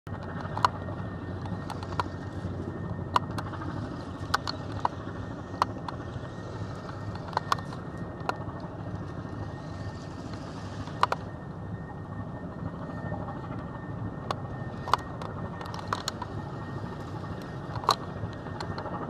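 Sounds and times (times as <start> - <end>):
vehicle idling hum: 0.1 - 19.0.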